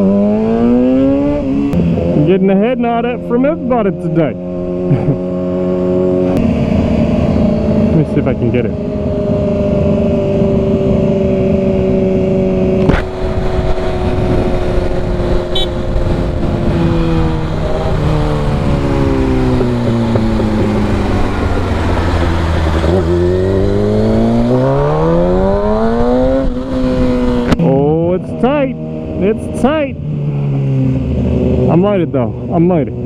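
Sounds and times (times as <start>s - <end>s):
motorcycle engine running: 0.0s - 33.0s
wind rush: 4.4s - 33.0s.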